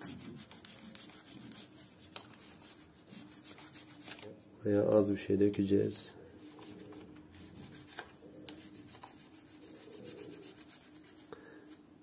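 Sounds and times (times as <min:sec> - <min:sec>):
rubbing and handling noises: 0:00.0 - 0:04.5, 0:05.6 - 0:12.0
faint steady hum: 0:00.0 - 0:12.0.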